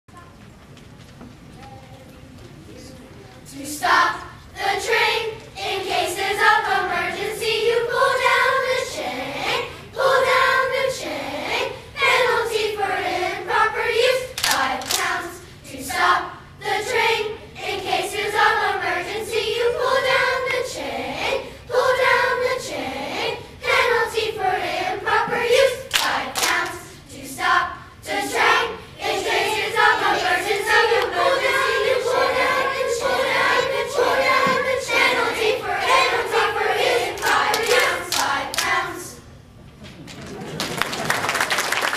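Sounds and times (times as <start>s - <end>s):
children's choir singing a round: 3.5s - 39.3s.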